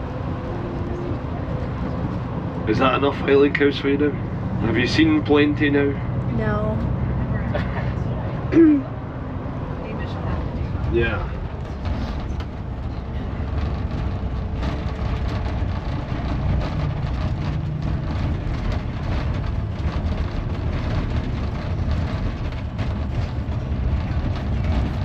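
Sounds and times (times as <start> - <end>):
road noise inside cabin: 0.0 - 25.0
tour coach engine rumble: 0.0 - 25.0.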